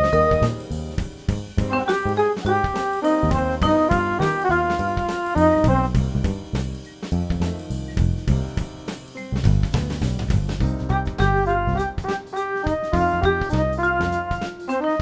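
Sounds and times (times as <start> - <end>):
jazz music with brass and drums: 0.0 - 15.0.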